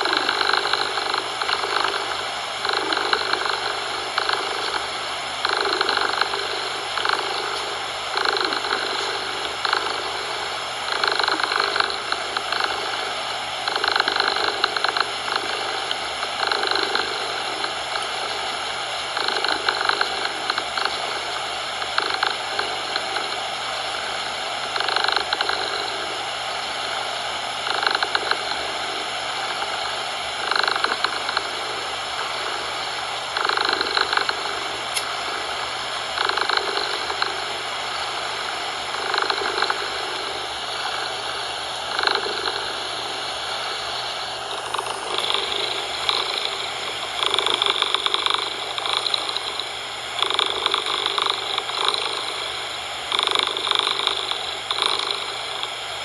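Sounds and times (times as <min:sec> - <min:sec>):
cat purring: 0:00.0 - 0:55.8
background hiss: 0:00.0 - 0:56.0.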